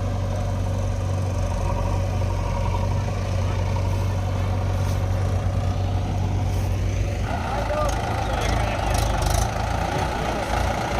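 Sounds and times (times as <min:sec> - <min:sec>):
diesel engine idling: 0:00.0 - 0:10.9.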